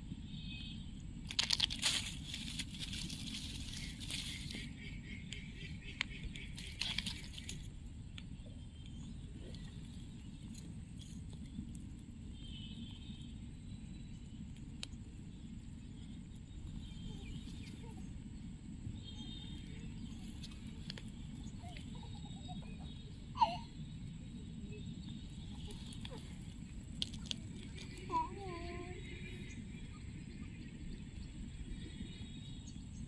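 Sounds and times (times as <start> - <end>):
high insect whine: 0.0 - 5.1, 8.6 - 33.0
steady low rumble: 0.0 - 33.0
faint bird chirps: 0.2 - 10.8, 11.4 - 33.0.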